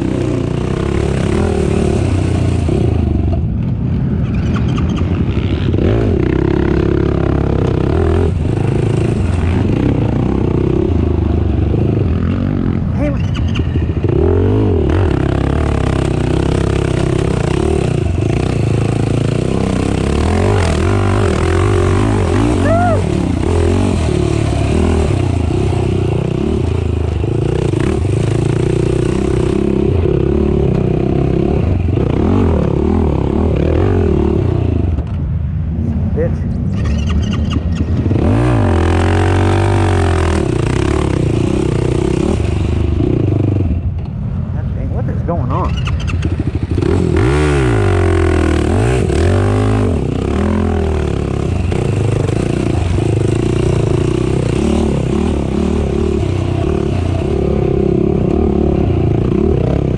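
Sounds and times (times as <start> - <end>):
racing atv engine revving: 0.0 - 35.2, 35.8 - 43.9, 45.0 - 59.9.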